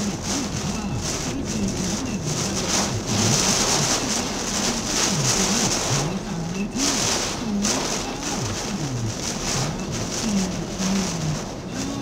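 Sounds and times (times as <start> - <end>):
heavy rain on car roof: 0.0 - 12.0
windshield wipers sweeping: 0.0 - 12.0.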